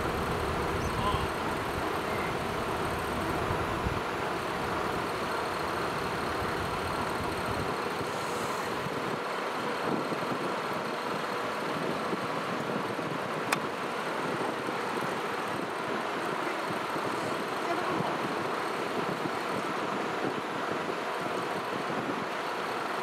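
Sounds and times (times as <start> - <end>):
large trucks idling: 0.0 - 23.0.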